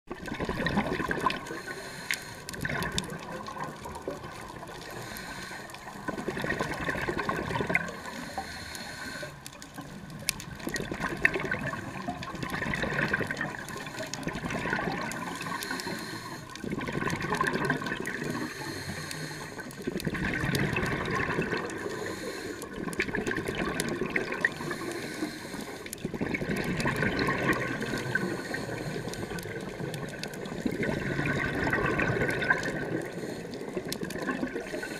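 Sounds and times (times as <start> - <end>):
diver's regulator bubbles gurgling: 0.1 - 34.9
underwater hiss: 1.0 - 2.9, 4.2 - 9.9, 10.7 - 16.6, 17.4 - 26.0, 26.9 - 34.9.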